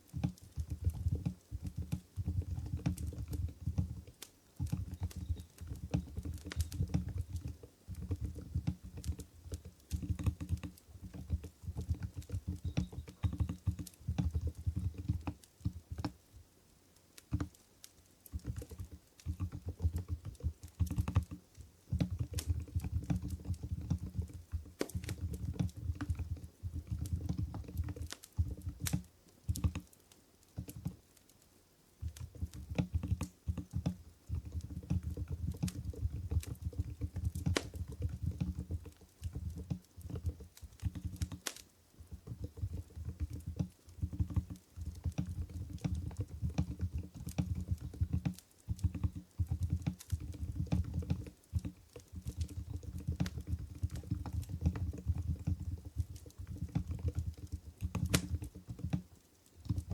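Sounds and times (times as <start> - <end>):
soft keyboard typing: 0.1 - 16.2, 17.2 - 31.4, 32.0 - 59.9.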